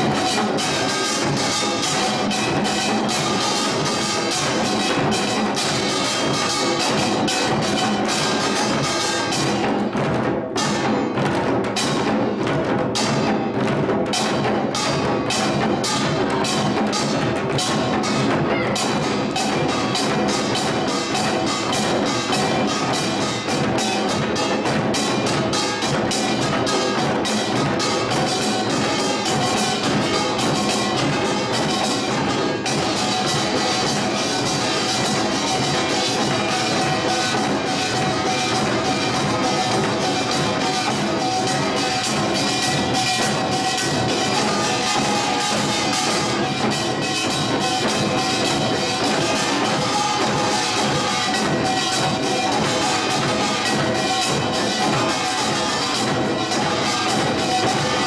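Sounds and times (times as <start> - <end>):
drums in driving rhythm: 0.0 - 58.0
small gongs clanging: 0.0 - 58.0.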